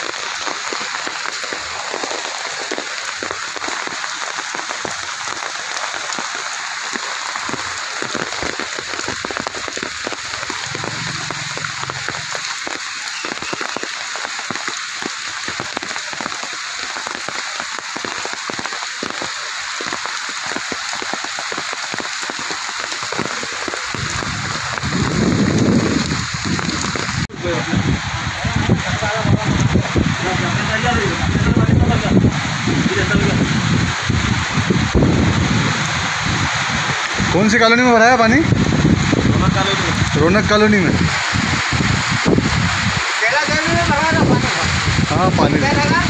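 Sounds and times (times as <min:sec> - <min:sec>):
heavy rain on paving and water: 0:00.0 - 0:46.0.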